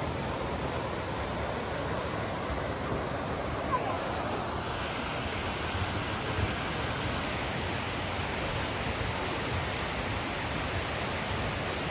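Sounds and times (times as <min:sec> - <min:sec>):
river rushing: 0:00.0 - 0:11.9.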